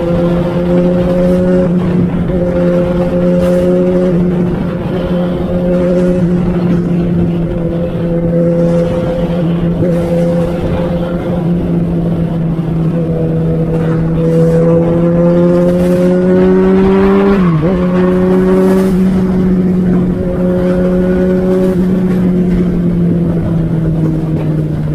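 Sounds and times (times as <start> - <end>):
motorcycle engine rumbling: 0.0 - 24.9.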